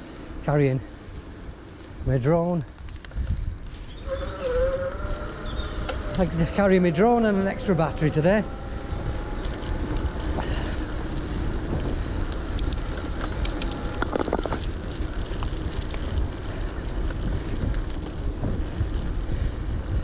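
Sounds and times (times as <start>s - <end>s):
bike tyre rumble: 0.0s - 20.0s
wind on microphone: 2.8s - 20.0s.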